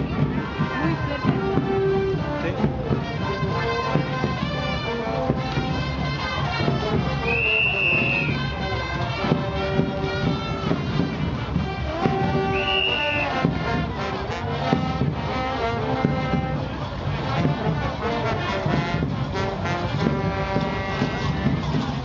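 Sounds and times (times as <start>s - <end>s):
brass music: 0.0s - 22.0s.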